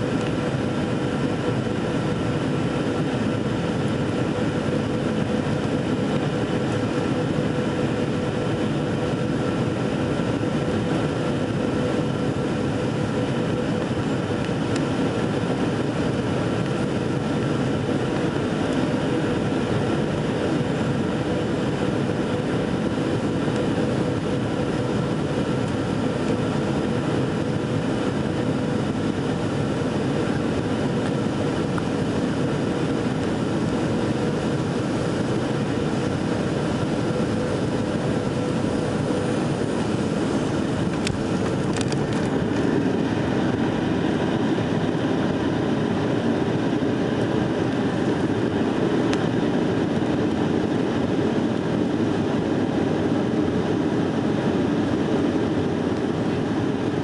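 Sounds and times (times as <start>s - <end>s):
jet cabin engine roar: 0.0s - 57.0s.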